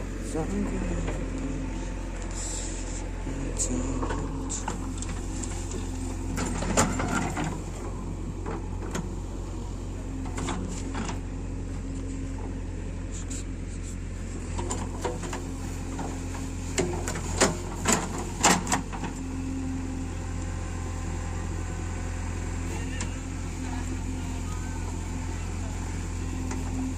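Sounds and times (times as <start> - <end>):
heavy machinery diesel engine: 0.0 - 26.9.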